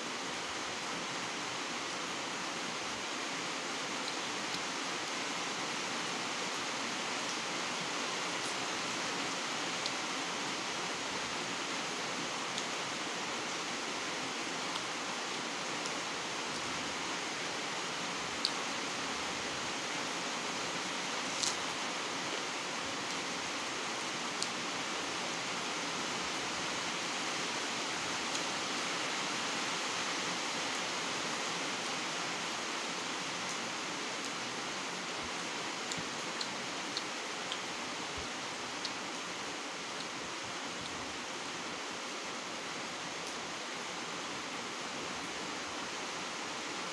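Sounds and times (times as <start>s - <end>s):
background hiss: 0.0s - 46.9s.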